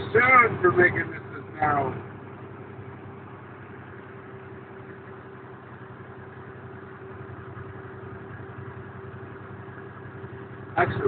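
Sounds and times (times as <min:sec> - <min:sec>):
constant hum tone: 0:00.0 - 0:11.0
road noise: 0:00.0 - 0:11.0
truck diesel engine drone: 0:00.0 - 0:11.0.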